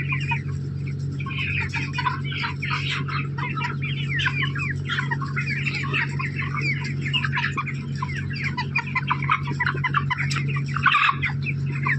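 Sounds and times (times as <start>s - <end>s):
chickens calling: 0.0s - 11.9s
low hum: 0.0s - 11.9s.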